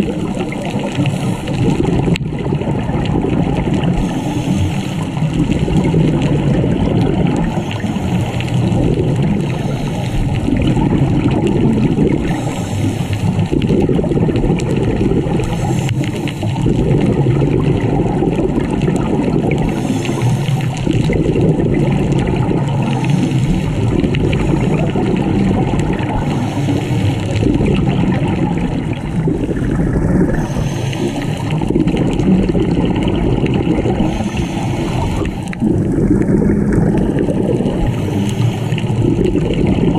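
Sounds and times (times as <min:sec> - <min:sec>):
underwater regulator breathing bubbles: 0:00.0 - 0:39.9.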